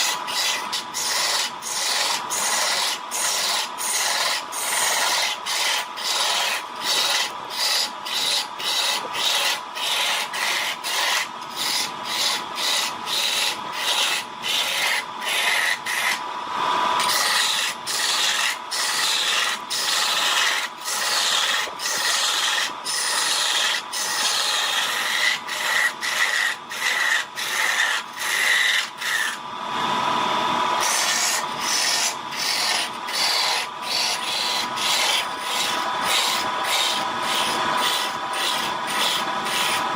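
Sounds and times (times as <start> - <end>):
wood being scraped by hand: 0.0 - 16.2, 17.0 - 29.4, 30.8 - 39.9.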